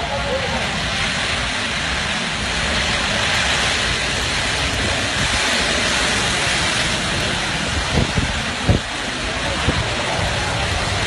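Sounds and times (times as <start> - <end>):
wildfire burning through trees: 0.0 - 11.0.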